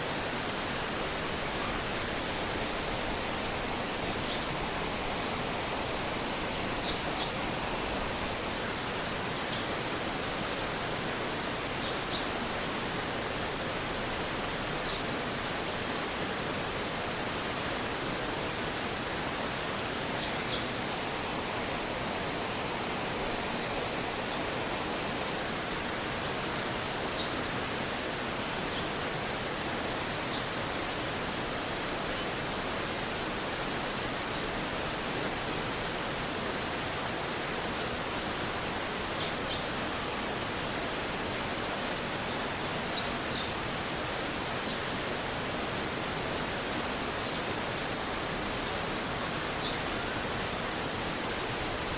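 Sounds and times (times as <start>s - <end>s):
stream water rushing: 0.0s - 51.9s.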